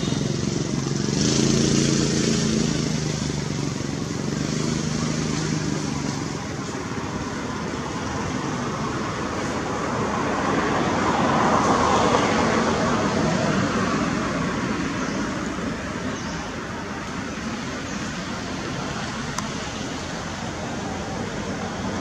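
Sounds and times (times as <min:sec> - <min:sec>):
vehicle passing by: 0:00.0 - 0:22.0.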